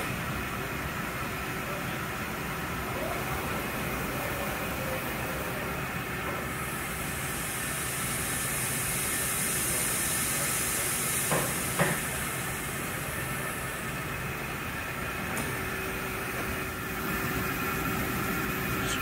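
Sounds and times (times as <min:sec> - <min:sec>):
machine shop hum and hiss: 0:00.0 - 0:19.0.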